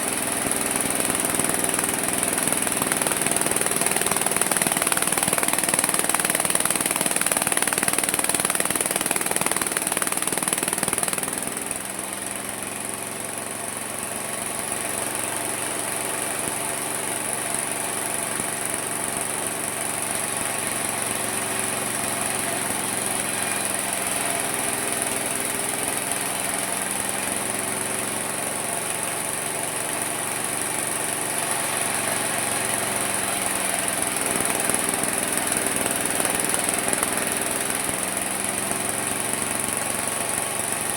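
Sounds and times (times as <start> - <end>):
small sawmill engine running: 0.0 - 40.9.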